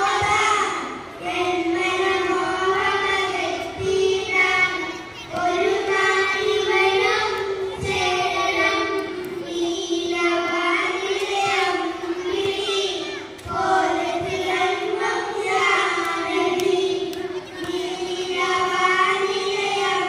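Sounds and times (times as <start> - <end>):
child singing: 0.0 - 20.0.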